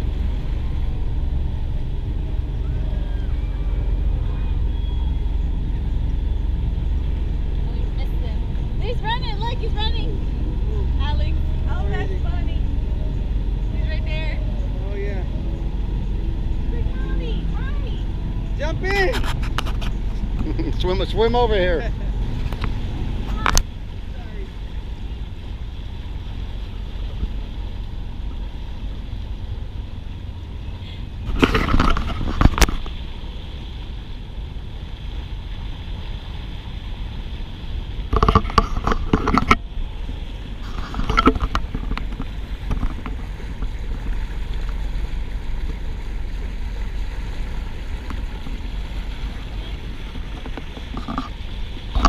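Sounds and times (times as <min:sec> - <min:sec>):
water around a boat: 0:00.0 - 0:52.0
wind rumble on microphone: 0:00.0 - 0:52.0.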